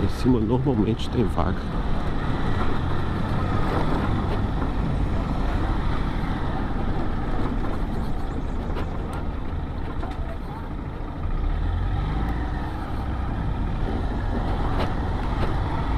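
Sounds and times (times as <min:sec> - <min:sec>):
road noise: 0:00.0 - 0:15.9.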